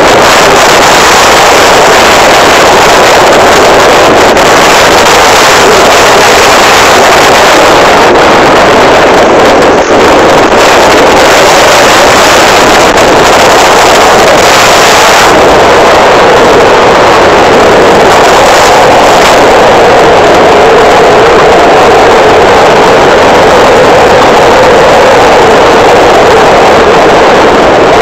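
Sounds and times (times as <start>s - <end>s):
wind rushing on microphone: 0.0s - 28.0s.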